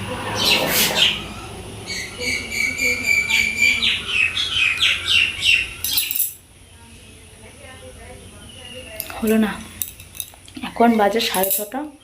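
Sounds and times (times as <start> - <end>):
songbird singing: 0.0 - 9.8.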